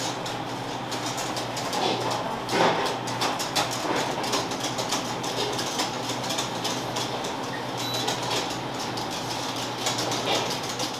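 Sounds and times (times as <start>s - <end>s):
low machine hum: 0.0s - 10.9s.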